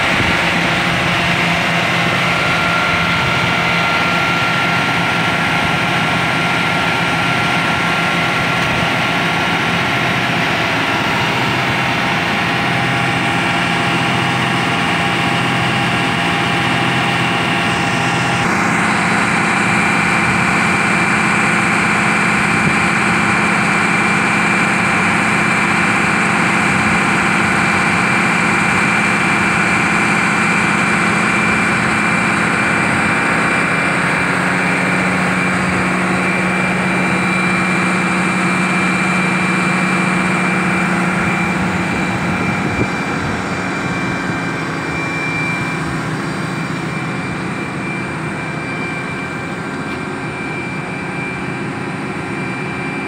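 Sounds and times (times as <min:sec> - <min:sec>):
diesel tractor engine idling: 0:00.0 - 0:53.0
steady engine whine: 0:00.0 - 0:53.0.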